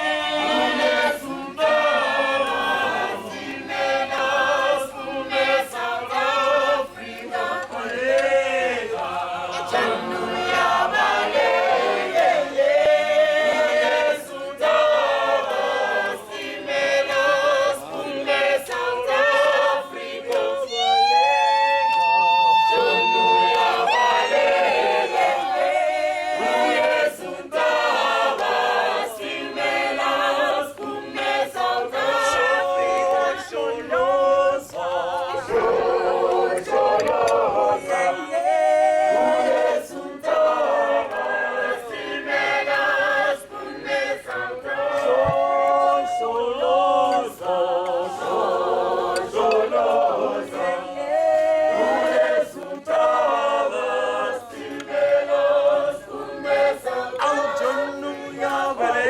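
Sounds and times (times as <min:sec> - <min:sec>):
group singing in harmony: 0:00.0 - 0:59.0.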